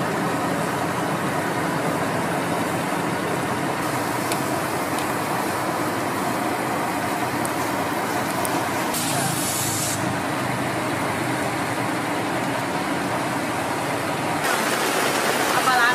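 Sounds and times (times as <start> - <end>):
traffic running: 0.0 - 15.9.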